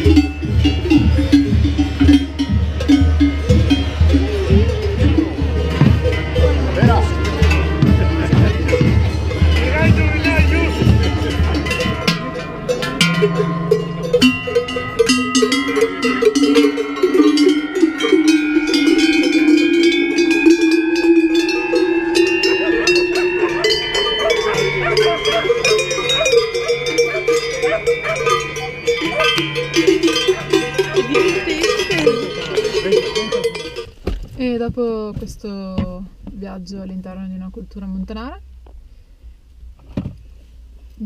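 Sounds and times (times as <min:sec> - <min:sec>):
metal cowbells clanging: 0:00.0 - 0:38.4.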